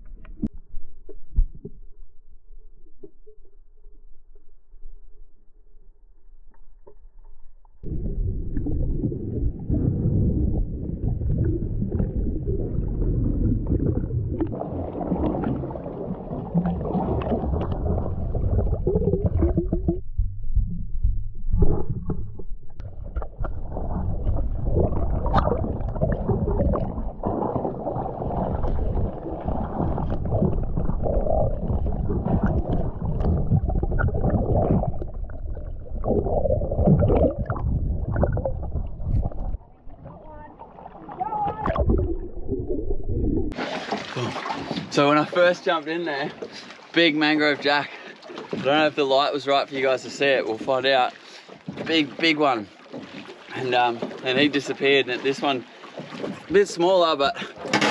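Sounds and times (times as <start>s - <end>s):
underwater rumble and gurgling: 0.0s - 57.9s.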